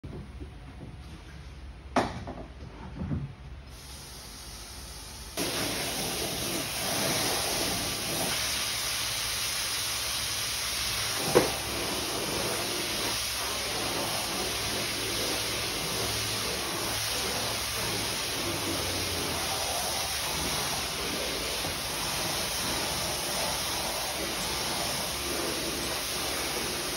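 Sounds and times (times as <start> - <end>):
hose spraying water on rug: 3.7 - 26.9.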